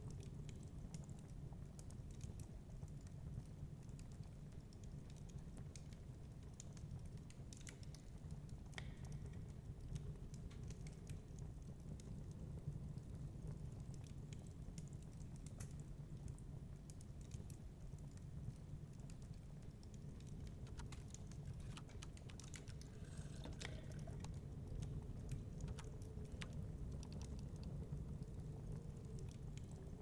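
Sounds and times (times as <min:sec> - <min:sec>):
fire pops and snaps: 0:00.0 - 0:30.0
wood fire crackling: 0:00.0 - 0:30.0.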